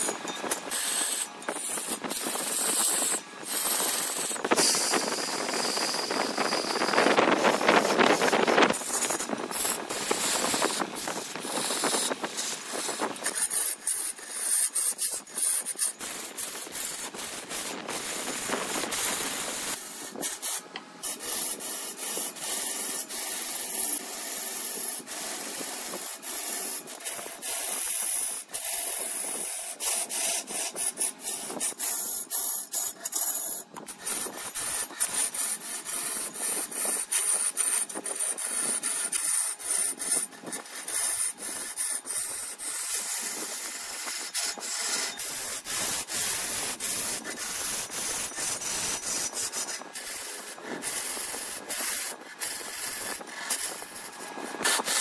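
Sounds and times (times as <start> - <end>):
wood lathe scraping hiss: 0.0 - 55.0.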